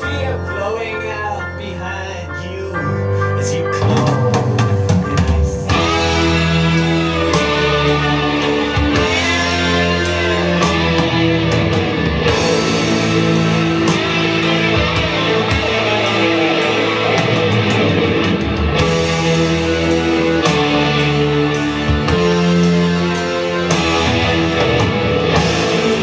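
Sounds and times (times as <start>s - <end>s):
guitar rock music over loudspeakers: 0.0s - 26.0s.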